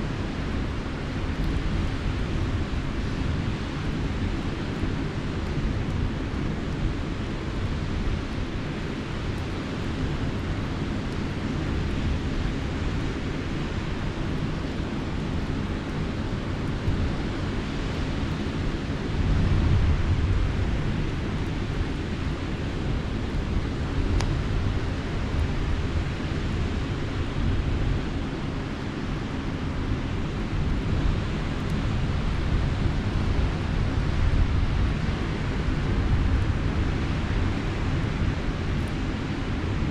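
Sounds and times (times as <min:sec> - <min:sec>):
campfire burning: 0:00.0 - 0:39.9
wind: 0:00.0 - 0:39.9.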